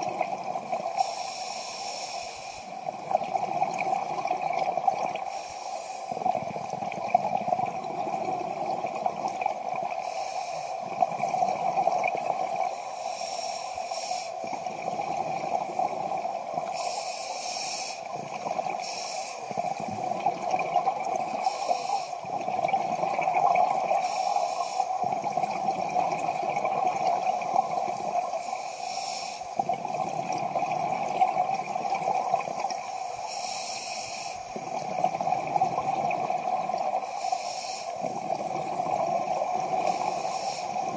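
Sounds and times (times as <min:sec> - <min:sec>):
exhaled bubbles gurgling: 0:00.0 - 0:01.3, 0:02.6 - 0:17.2, 0:17.8 - 0:40.9.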